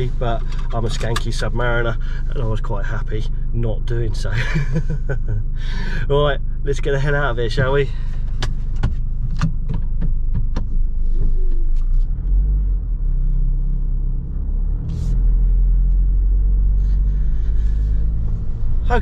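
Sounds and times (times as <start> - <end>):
van engine running: 0.0 - 19.0.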